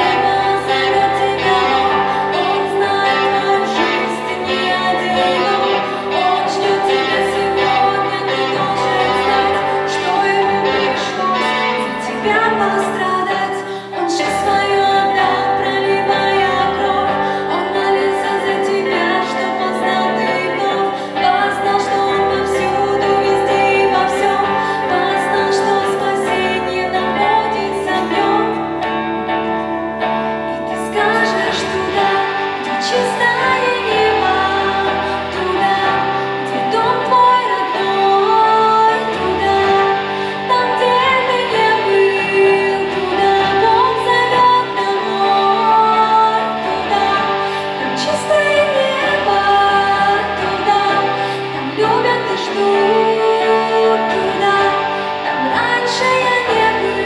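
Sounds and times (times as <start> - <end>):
electric guitars: 0.0 - 57.0
woman singing through microphone: 0.0 - 57.0.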